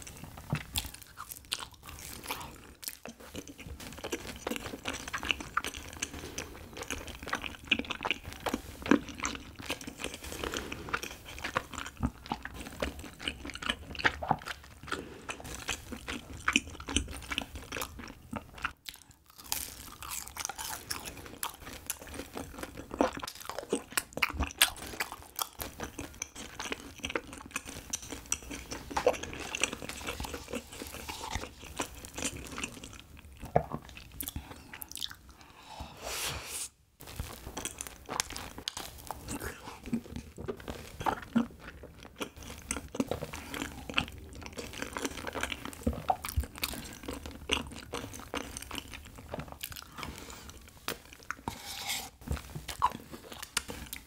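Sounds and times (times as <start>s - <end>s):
biting and chewing food: 0.0s - 35.3s, 37.0s - 54.0s.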